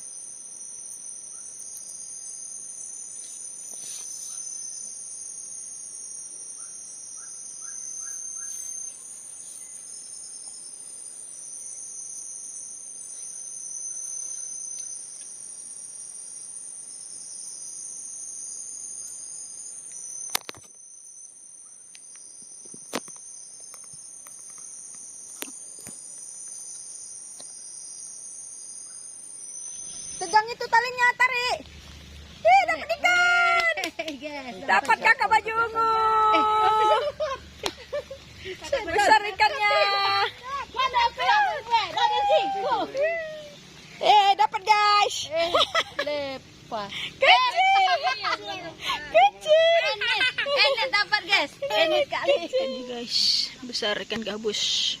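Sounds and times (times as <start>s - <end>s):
insects buzzing and trilling: 0.0s - 55.0s.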